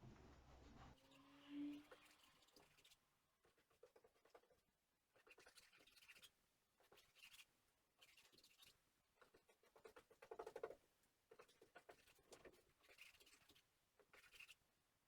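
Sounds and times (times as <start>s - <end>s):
faint scratchy rasping strokes: 0.7s - 14.7s.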